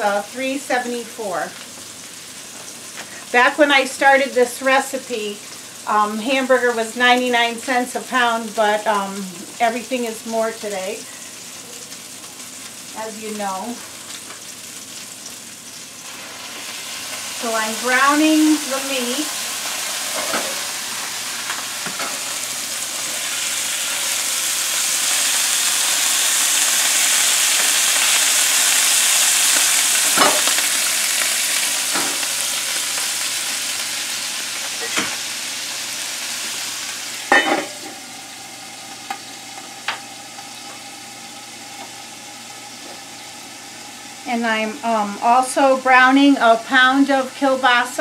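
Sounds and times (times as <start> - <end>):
ground beef sizzling in skillet: 0.0 - 48.0.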